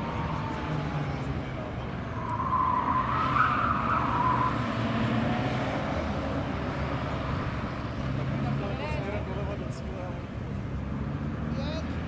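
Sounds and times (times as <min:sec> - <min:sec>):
car engine under load: 0:00.0 - 0:12.0.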